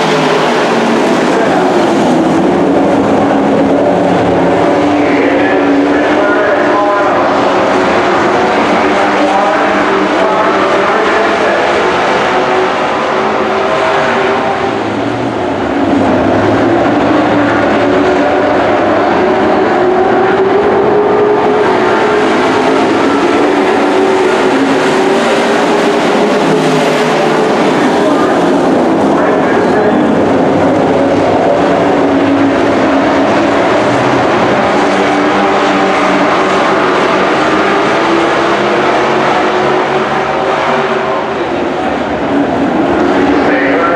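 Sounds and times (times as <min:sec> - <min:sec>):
race truck engines: 0:00.0 - 0:43.9.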